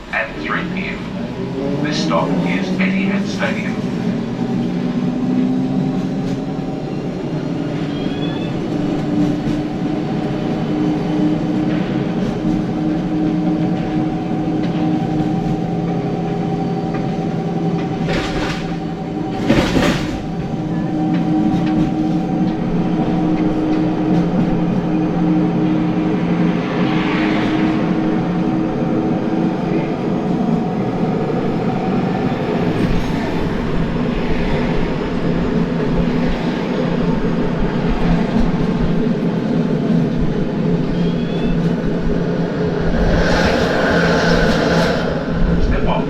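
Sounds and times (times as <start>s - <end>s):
tram motor hum and whine: 0.0s - 46.0s
tram rumbling and rattling: 0.0s - 46.0s.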